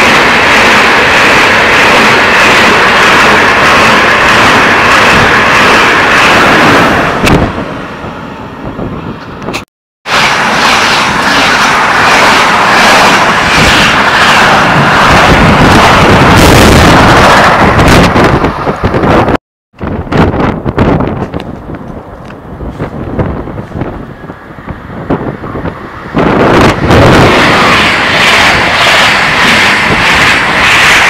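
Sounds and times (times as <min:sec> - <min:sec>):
trains rushing past: 0:00.0 - 0:31.0.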